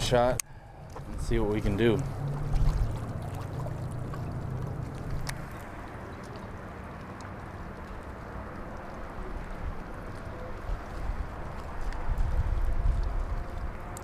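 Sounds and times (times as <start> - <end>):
lake water lapping: 0.0 - 14.0
wind rumbling on microphone: 0.0 - 14.0.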